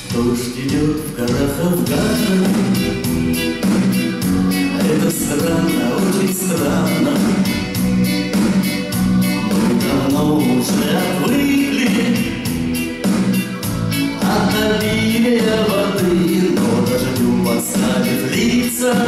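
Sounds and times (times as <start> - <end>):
bass guitar: 0.0 - 19.0
guitars: 0.0 - 19.0
keyboard: 0.0 - 19.0
steady drum beat: 0.0 - 19.0.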